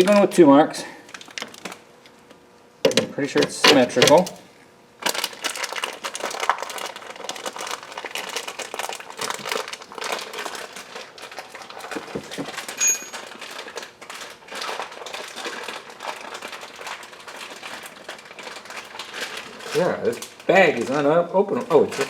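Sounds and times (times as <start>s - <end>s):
plastic bag crinkling: 0.0s - 0.4s, 1.0s - 2.2s, 5.0s - 22.0s.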